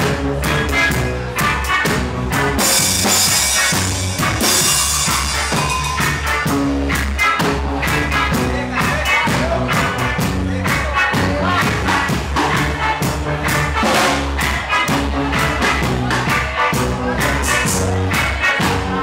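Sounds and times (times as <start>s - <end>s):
drum kit: 0.0s - 19.0s
live reggae band: 0.0s - 19.0s.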